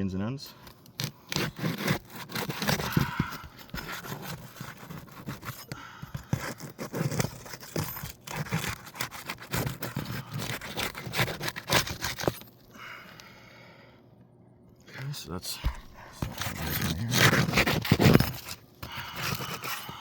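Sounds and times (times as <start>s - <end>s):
shingles scraping and tearing: 0.6s - 12.5s, 15.6s - 20.0s.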